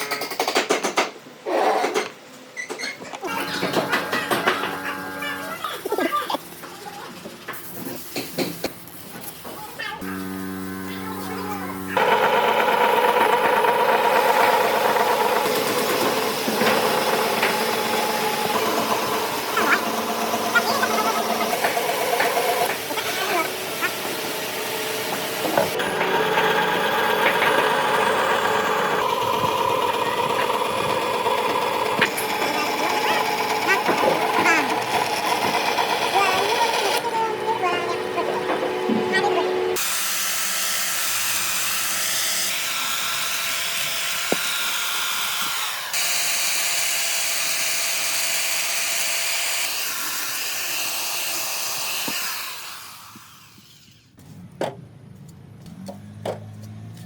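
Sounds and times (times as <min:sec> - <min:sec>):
power tool motor running: 0:03.3 - 0:05.6, 0:10.0 - 0:54.1.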